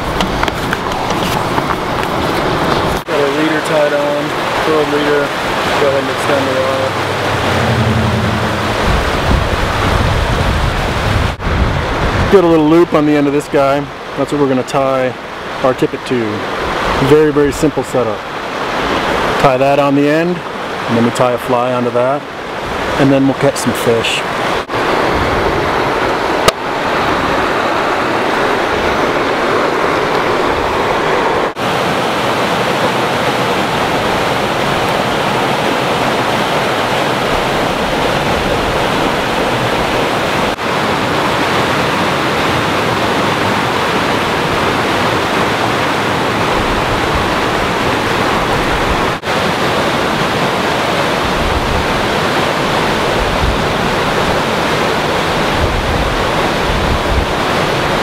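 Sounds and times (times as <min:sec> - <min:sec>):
rushing mountain stream: 0:00.0 - 0:58.0.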